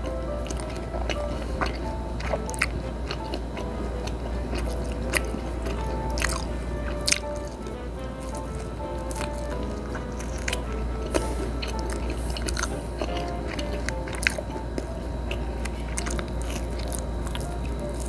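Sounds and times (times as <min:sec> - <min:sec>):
person chewing food: 0:00.0 - 0:18.0
soft background music: 0:00.0 - 0:18.0.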